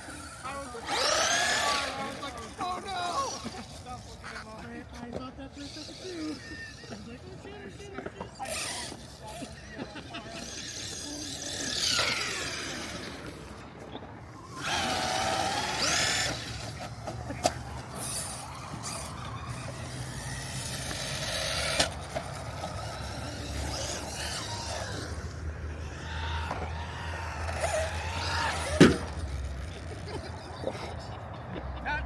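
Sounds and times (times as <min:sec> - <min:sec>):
toy truck electric motor whining: 0:00.0 - 0:32.0.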